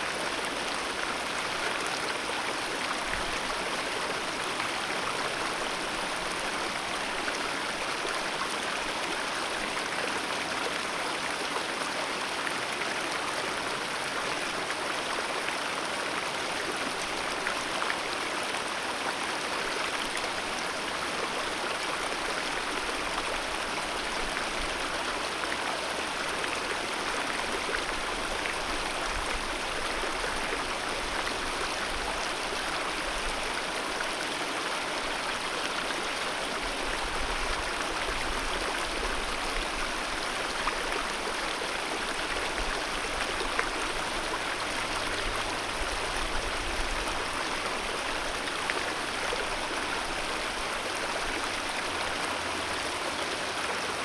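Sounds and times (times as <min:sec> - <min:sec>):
mountain river flowing: 0:00.0 - 0:54.0.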